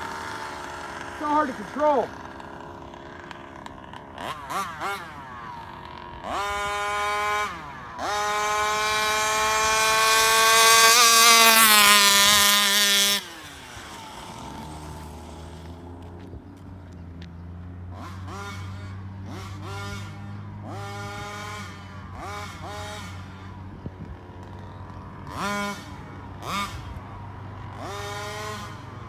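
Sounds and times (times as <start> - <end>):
rc car two-stroke engine revving: 0.0 - 29.0.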